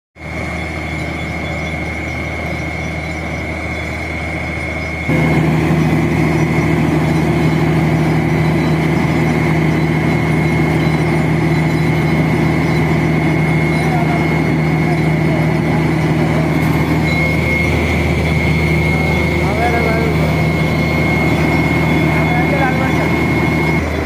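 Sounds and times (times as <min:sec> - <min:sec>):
drilling rig engines droning: 0:00.2 - 0:24.0.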